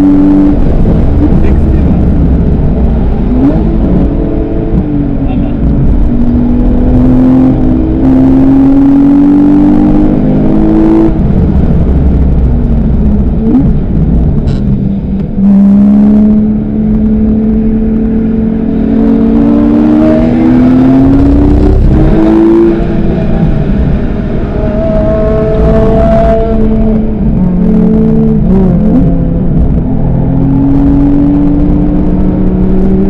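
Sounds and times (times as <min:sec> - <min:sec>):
car engine revving under power: 0:00.0 - 0:33.0.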